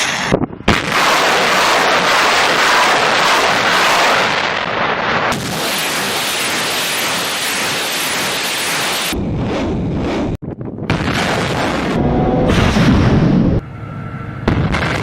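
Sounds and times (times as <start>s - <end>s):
rocket motors roaring: 0.0s - 15.0s.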